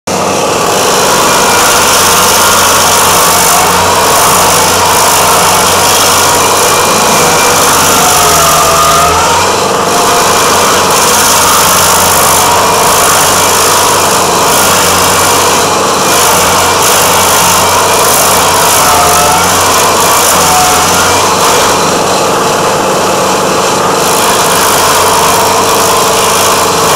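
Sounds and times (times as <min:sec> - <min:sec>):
cutter wheel grinding wood: 0:00.0 - 0:26.9
stump grinder engine under load: 0:00.1 - 0:26.9.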